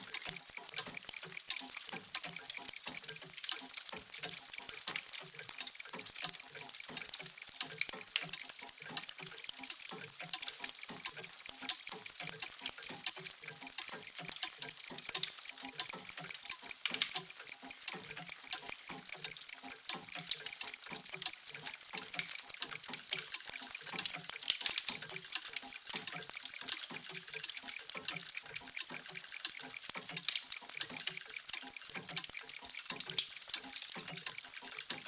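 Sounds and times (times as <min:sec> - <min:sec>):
many mechanical clocks ticking: 0:00.0 - 0:35.0.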